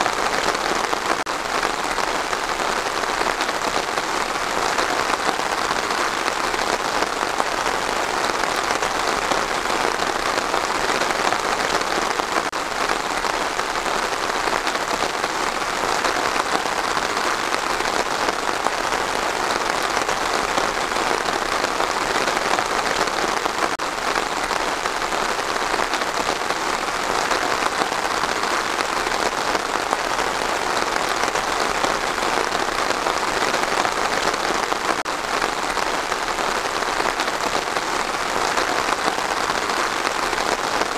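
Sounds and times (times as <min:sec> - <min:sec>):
rain falling on trees: 0:00.0 - 0:40.9.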